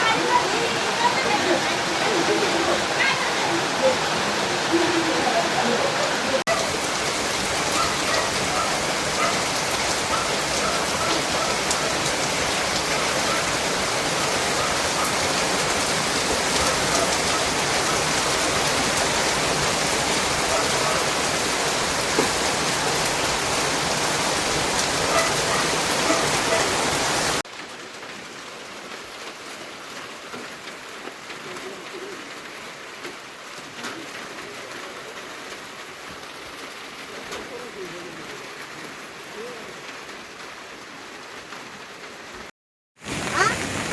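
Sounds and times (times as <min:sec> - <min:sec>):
heavy rainfall: 0:00.0 - 0:43.9.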